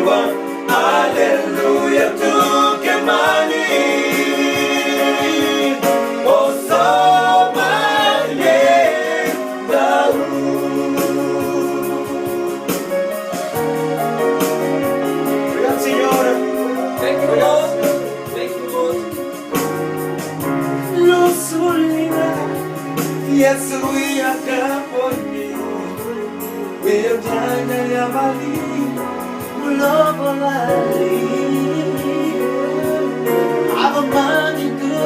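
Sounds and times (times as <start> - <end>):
vocal quartet singing in harmony: 0.0 - 35.0.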